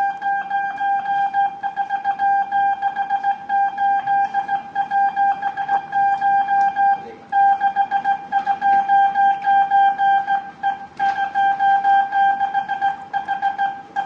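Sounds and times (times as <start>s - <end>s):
morse code beeps: 0.0s - 14.0s.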